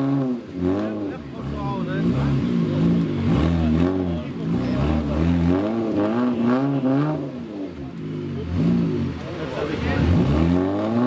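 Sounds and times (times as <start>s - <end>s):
off-road engine revving: 0.0s - 11.0s.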